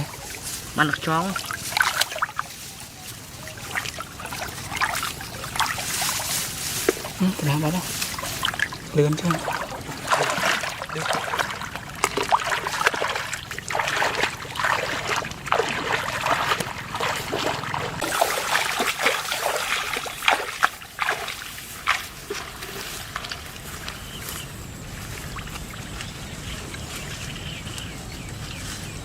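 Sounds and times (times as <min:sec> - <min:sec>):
water splashing and trickling: 0:00.0 - 0:28.0.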